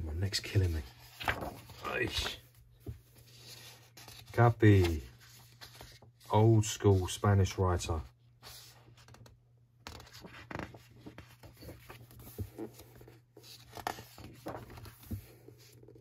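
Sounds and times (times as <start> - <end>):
book pages turning: 0.3 - 16.0.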